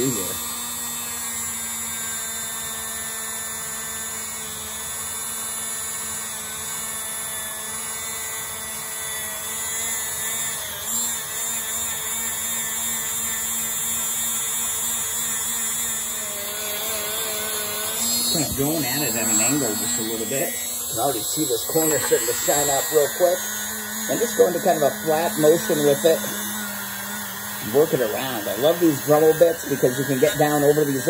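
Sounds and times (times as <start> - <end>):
rotary tool whine: 0.0 - 31.0.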